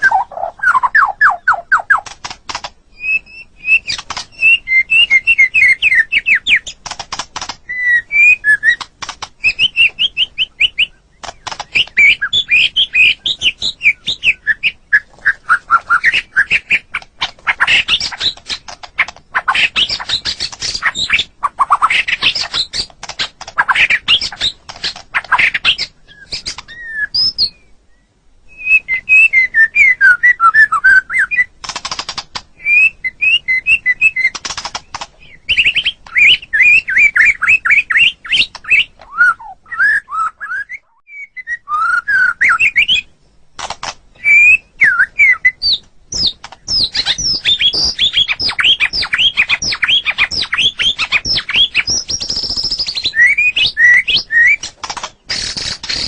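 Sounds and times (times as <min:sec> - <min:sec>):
harsh rasping bird chatter: 0:00.0 - 0:27.5, 0:31.1 - 0:39.6, 0:43.6 - 0:56.0
bird singing whistled notes and trills: 0:00.0 - 0:43.4, 0:44.1 - 0:56.0.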